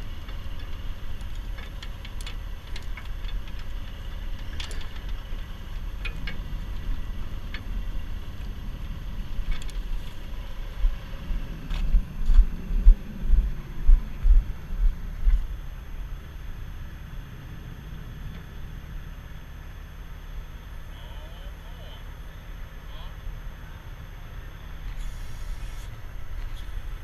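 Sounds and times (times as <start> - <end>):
truck diesel engine idling: 0.0 - 27.0.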